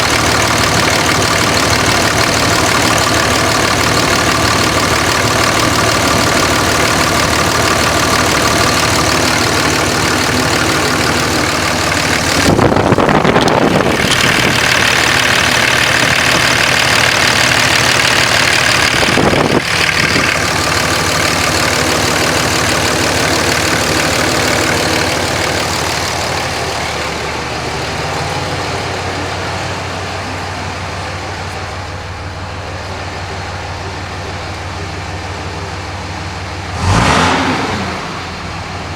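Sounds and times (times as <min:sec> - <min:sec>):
diesel engine idling and revving: 0:00.0 - 0:38.9.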